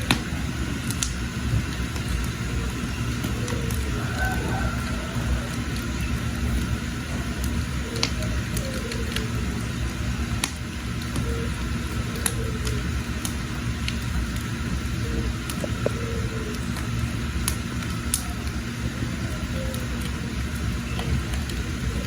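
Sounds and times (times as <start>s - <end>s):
fire low rumble: 0.0s - 22.0s
wood crackling and popping: 0.0s - 22.0s.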